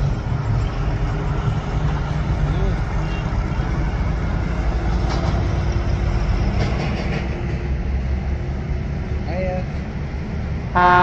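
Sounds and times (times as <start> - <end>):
bus engine rumbling: 0.0 - 11.0
heavy traffic: 0.0 - 11.0.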